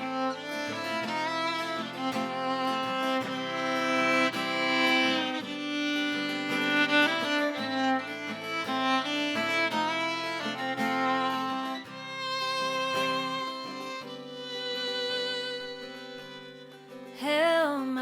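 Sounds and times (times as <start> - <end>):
fiddle playing slow melody: 0.0 - 17.8
guitar: 0.0 - 18.0.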